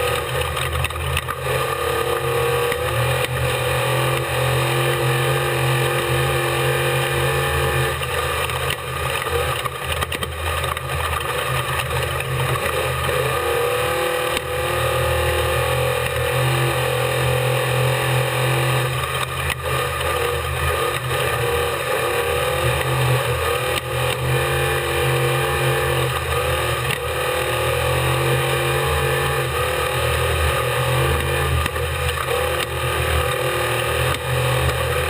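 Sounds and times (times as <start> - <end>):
race vehicle engine running hard: 0.0 - 35.0.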